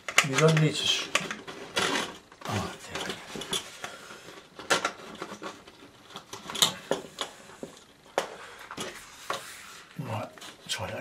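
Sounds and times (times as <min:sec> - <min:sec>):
scraping and rustling: 0:00.2 - 0:10.6.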